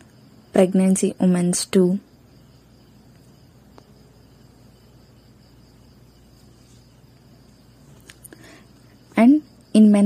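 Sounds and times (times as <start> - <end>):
thin high whine: 0.0 - 10.0.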